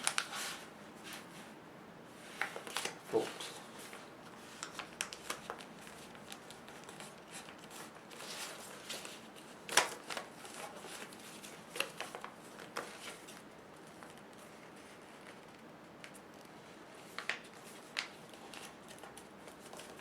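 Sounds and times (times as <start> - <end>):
paper being folded: 0.0 - 1.3, 2.2 - 20.0.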